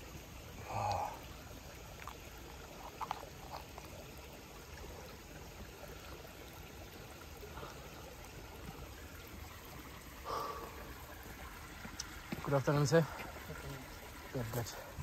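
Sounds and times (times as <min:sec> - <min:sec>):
spring water trickling: 0:00.0 - 0:15.0.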